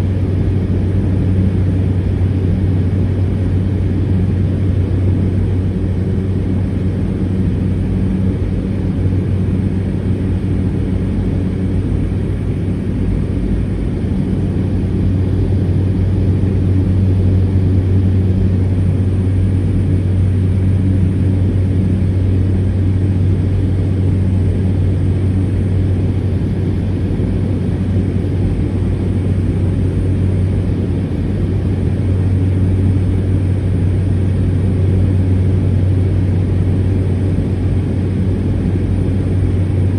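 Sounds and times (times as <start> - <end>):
turboprop engine humming: 0.0 - 39.9.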